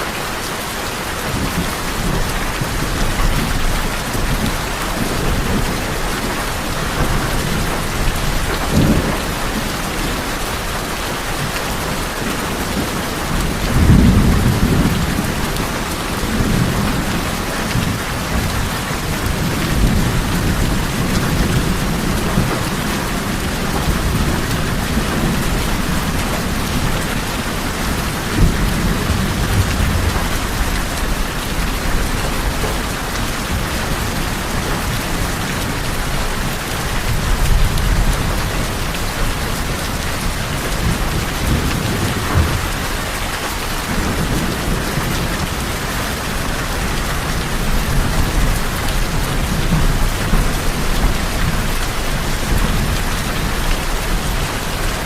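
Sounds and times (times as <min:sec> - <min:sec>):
heavy rain on tin roofs: 0:00.0 - 0:55.0.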